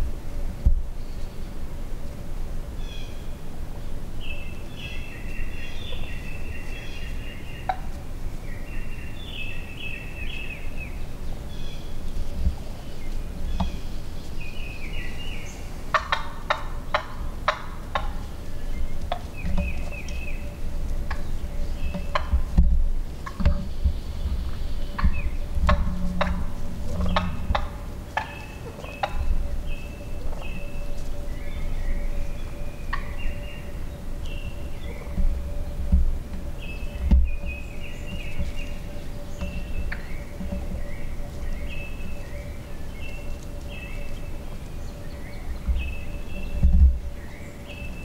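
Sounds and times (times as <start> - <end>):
wild turkeys yelping: 5.2 - 47.6.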